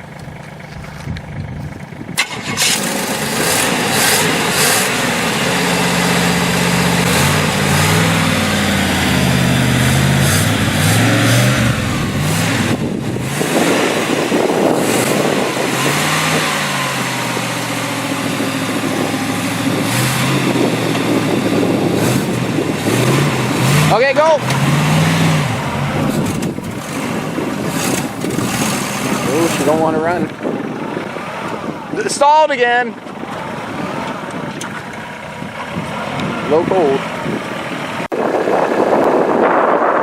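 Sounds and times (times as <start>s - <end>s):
car engine revving: 2.2s - 38.2s.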